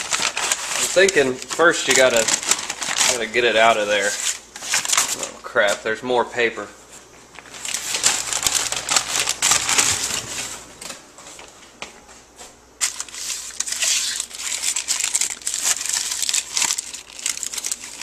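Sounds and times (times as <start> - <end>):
paper crinkling and rustling: 0.0 - 5.8, 7.3 - 11.6, 12.8 - 18.0.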